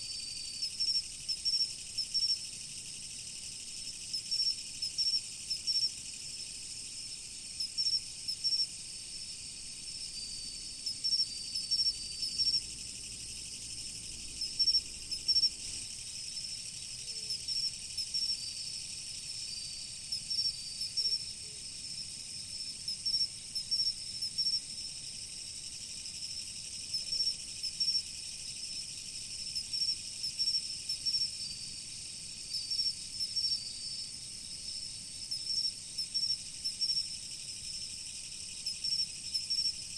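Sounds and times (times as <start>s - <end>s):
insects chirping: 0.0s - 39.9s
insects trilling: 0.0s - 39.9s.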